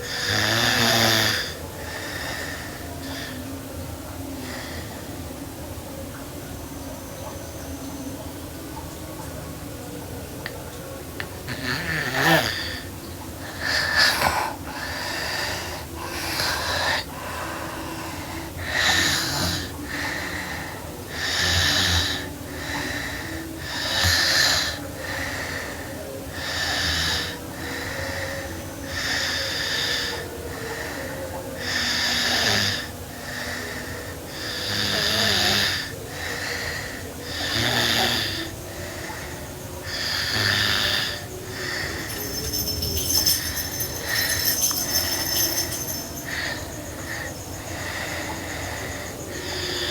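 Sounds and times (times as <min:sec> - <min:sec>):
girl snoring: 0:00.1 - 0:03.4, 0:11.5 - 0:12.9, 0:13.5 - 0:28.2, 0:28.9 - 0:49.9.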